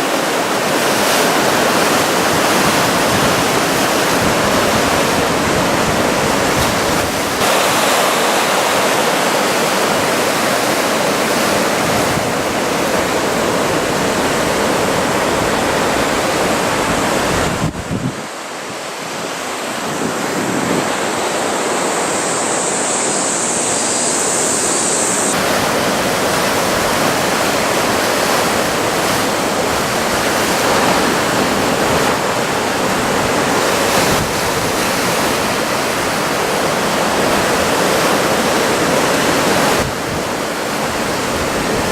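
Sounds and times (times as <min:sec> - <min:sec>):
ocean surf breaking: 0:00.0 - 0:41.9
wind buffeting microphone: 0:00.7 - 0:08.3, 0:09.5 - 0:18.4, 0:19.7 - 0:41.9.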